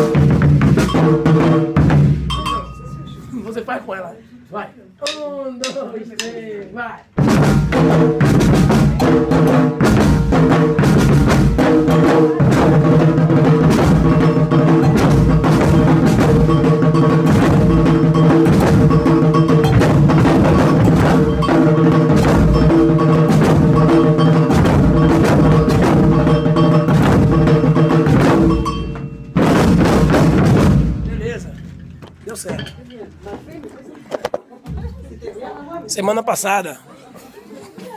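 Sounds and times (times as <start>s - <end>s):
percussion ensemble drumming: 0.0s - 3.6s, 5.0s - 6.5s, 7.1s - 33.0s.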